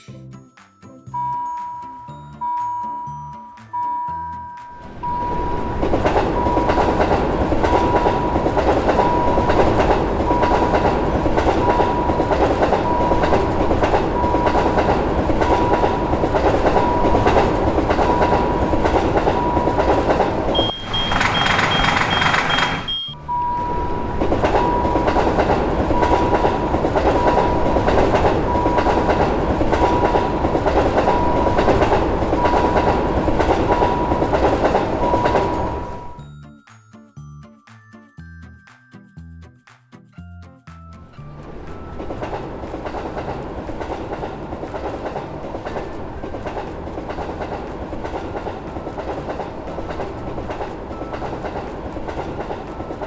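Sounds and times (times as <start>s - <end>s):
railroad crossing bell dinging: 1.0s - 36.5s, 41.5s - 53.0s
train rumbling and clattering: 4.9s - 36.2s, 41.4s - 53.0s.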